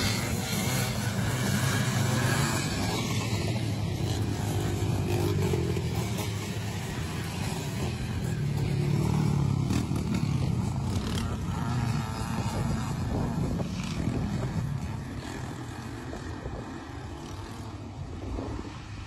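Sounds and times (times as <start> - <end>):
motocross bikes revving past: 0.0 - 19.0.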